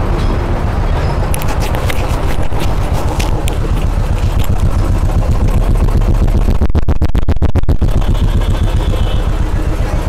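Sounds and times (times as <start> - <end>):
motorcycle engine running: 1.4 - 10.0.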